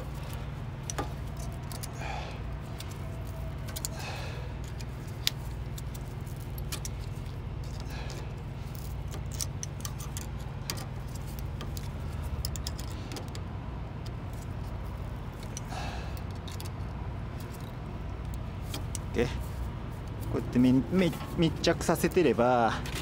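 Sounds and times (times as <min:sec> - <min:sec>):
light clicks and metallic rattles: 0:00.0 - 0:23.0
steady low hum: 0:00.0 - 0:23.0.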